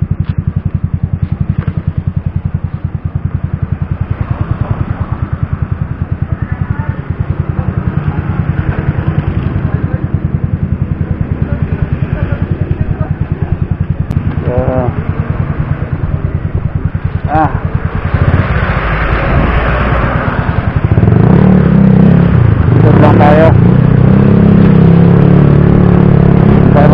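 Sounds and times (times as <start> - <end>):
scooter engine idling: 0.0 - 23.9.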